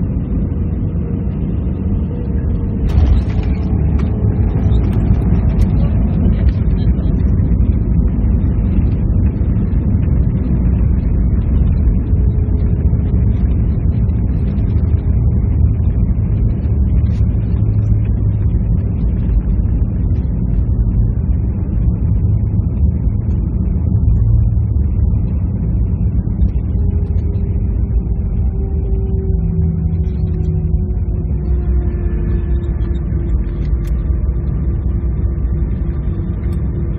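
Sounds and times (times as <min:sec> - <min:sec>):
airliner cabin engine rumble: 0:00.0 - 0:36.9
faint hum falling in pitch: 0:00.0 - 0:36.9.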